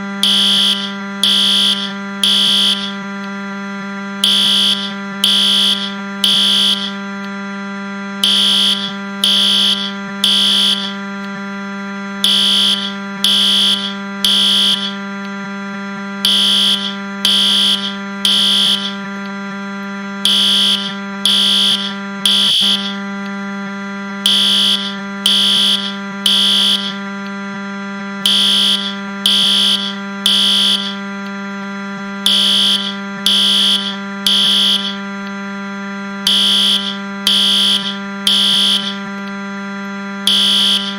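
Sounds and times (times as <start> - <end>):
fire alarm beeps: 0.0 - 40.9
low buzzing drone: 0.0 - 40.9.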